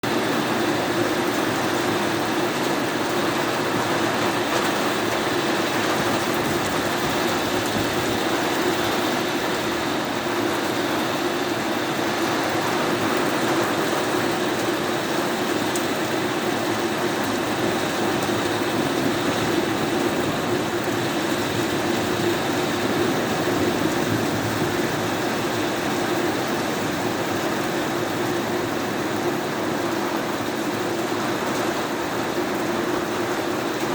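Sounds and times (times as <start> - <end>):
heavy rain on a house: 0.0 - 33.9.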